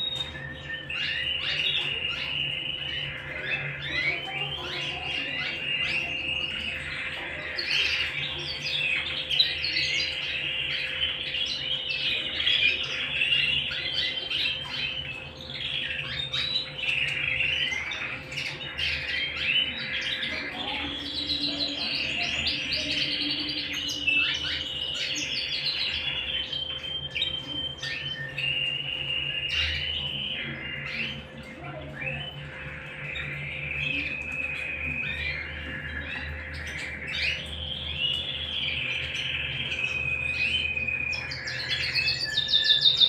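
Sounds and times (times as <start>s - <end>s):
canaries singing: 0.0s - 43.0s.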